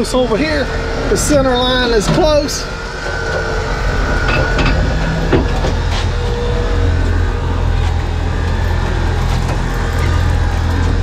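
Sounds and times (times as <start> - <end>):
boat engine and winch droning: 0.0 - 11.0.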